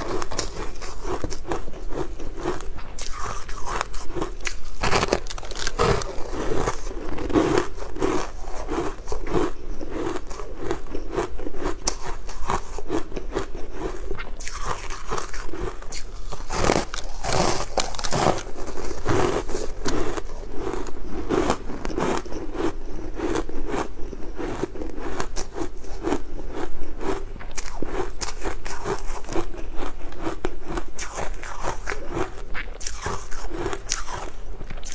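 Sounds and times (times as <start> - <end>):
crunching cake crumbs: 0.0 - 34.9
soft rhythmic chewing: 0.0 - 34.9.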